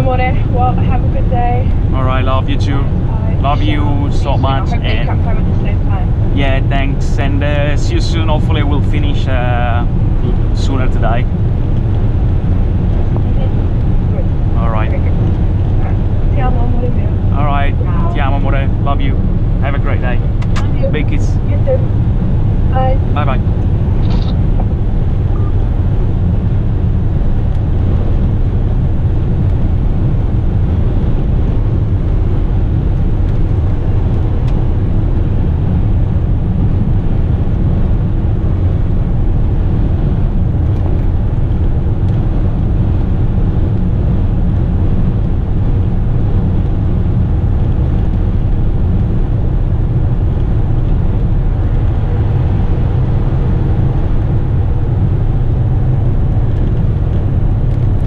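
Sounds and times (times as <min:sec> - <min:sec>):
truck diesel engine droning: 0:00.0 - 0:58.0
tyres on highway: 0:00.0 - 0:58.0.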